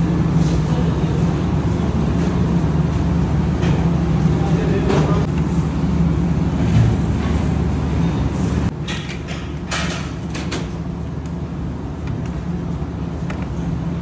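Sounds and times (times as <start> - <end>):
kitchen equipment humming: 0.0 - 14.0.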